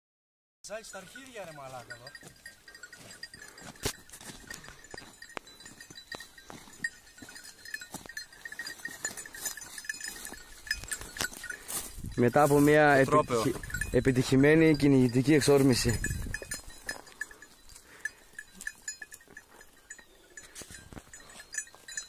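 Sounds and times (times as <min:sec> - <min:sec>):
faint high tinkle: 0:00.7 - 0:22.0
footsteps through dry scrub: 0:00.8 - 0:14.5, 0:15.1 - 0:22.0.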